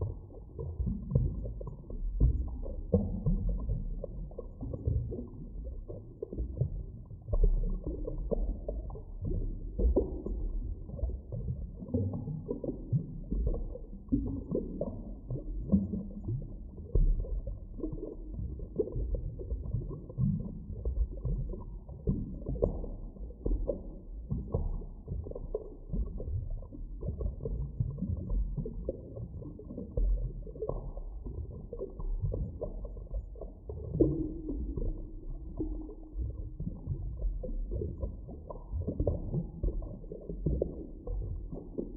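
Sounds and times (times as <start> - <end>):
deep underwater rumble: 0.0 - 41.9.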